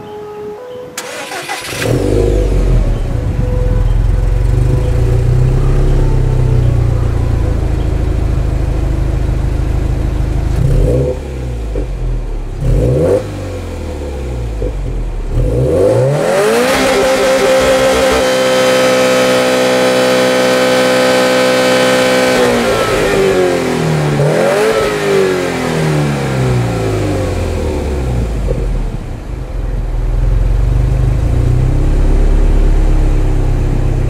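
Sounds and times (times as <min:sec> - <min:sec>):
car engine idling and revving: 0:01.0 - 0:34.0.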